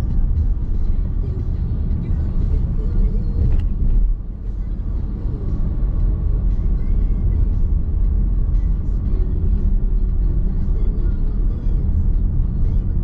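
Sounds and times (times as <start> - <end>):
tyres rumbling on road: 0.0 - 13.0.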